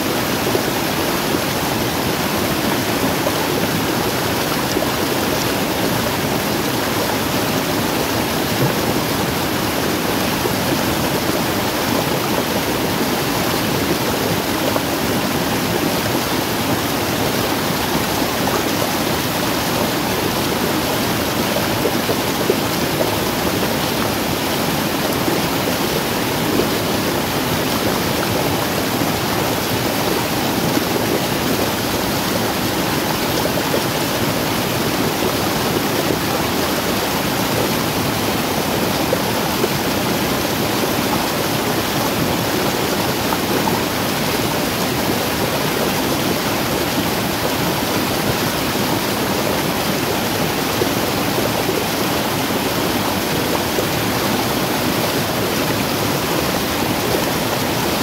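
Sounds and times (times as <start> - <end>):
water rushing down a waterfall: 0.0 - 58.0.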